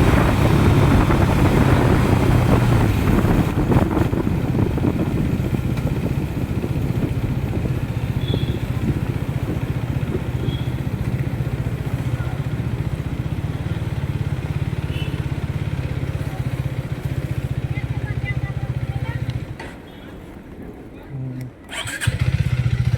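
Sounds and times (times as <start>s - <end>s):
motorcycle engine running: 0.0s - 19.6s, 21.7s - 22.9s.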